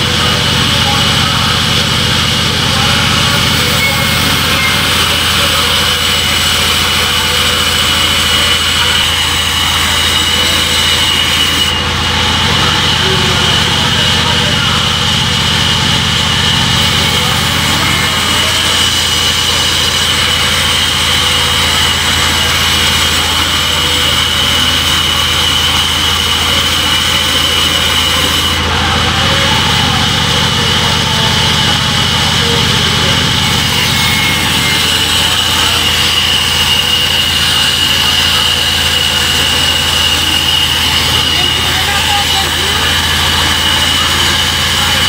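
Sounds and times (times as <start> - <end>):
band saw machine hum: 0.0 - 45.0
high whine: 0.0 - 45.0.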